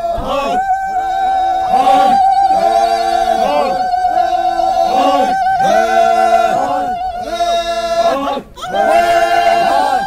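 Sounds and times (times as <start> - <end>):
high wavering voice: 0.0 - 10.0
men's voices singing phrases: 0.0 - 10.0.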